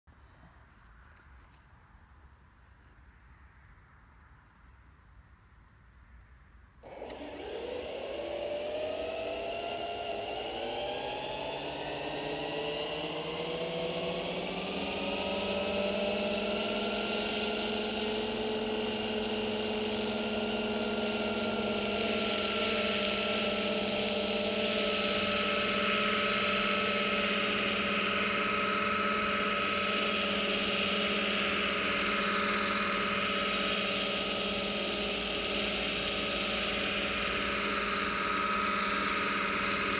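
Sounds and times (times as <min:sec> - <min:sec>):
model helicopter rotor whine: 0:06.8 - 0:39.9.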